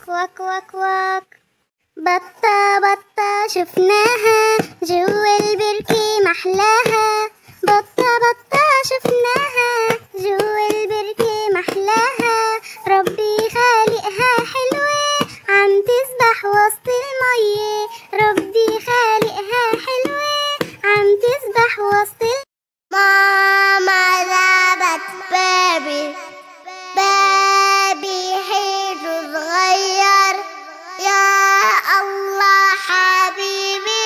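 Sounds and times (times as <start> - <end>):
child singing: 0.0 - 1.4, 2.0 - 34.0.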